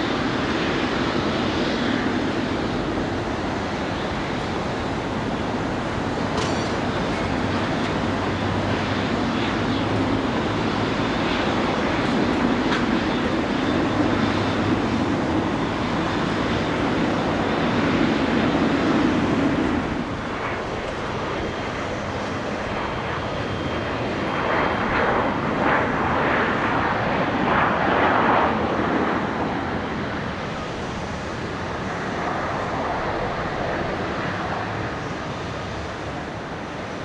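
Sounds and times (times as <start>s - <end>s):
jet airliner engines rumbling: 0.0s - 37.0s.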